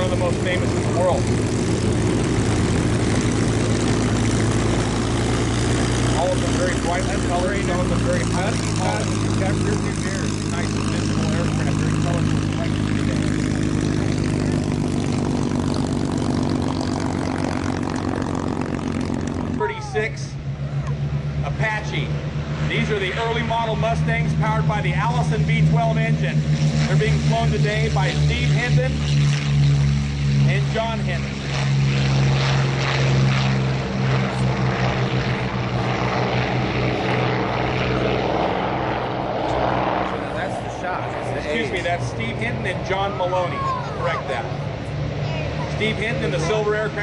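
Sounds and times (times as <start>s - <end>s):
airflow noise: 0.0s - 47.0s
piston aircraft engines droning: 0.0s - 47.0s.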